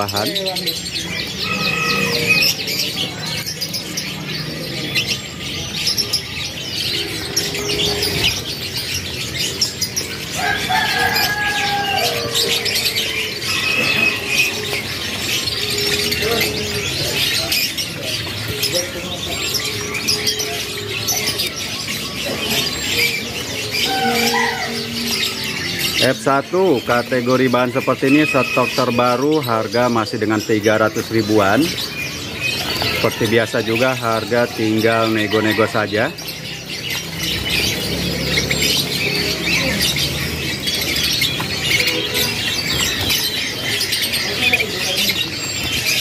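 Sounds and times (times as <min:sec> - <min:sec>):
canaries chirping: 0:00.0 - 0:46.0.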